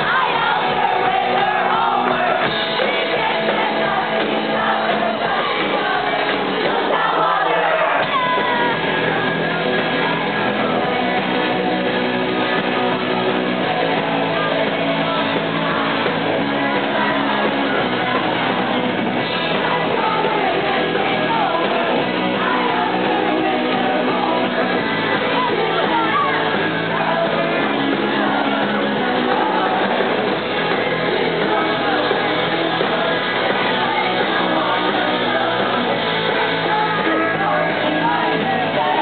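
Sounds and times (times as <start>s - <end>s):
crowd singing along: 0.0s - 39.0s
electric guitar: 0.0s - 39.0s
loud shouted singing: 0.0s - 39.0s.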